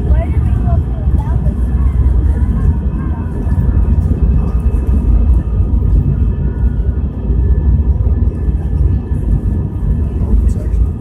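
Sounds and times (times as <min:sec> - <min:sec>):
jet engines at takeoff in cabin: 0:00.0 - 0:11.0.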